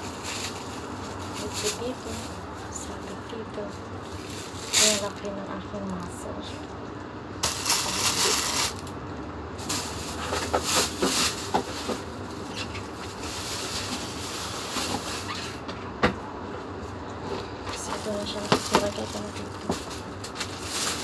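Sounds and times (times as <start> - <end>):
plastic bags rustling: 0.0 - 6.7, 7.4 - 9.0, 9.6 - 15.6, 17.8 - 21.0.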